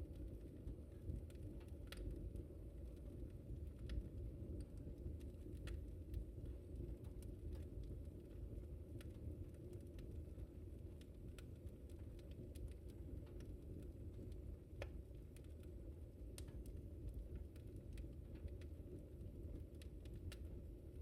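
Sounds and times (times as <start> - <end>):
low fire rumble: 0.0 - 21.0
wood fire crackling: 0.0 - 21.0.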